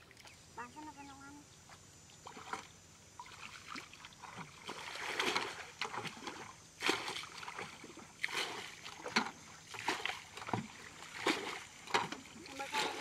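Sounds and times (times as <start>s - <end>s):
splashing in shallow muddy water: 2.2s - 13.0s.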